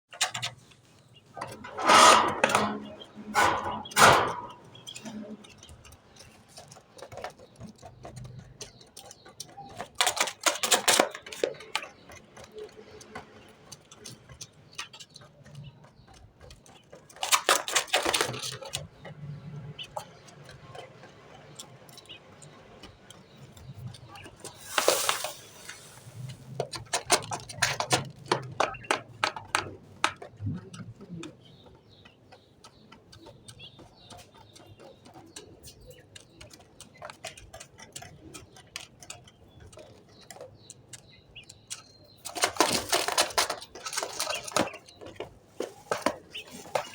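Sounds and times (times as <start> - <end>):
quail pecking grains: 0.1 - 46.9.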